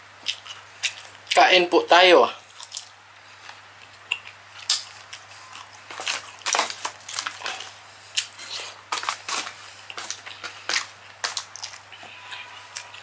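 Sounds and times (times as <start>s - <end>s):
chewing and mouth smacking: 0.2s - 1.4s, 2.4s - 13.0s.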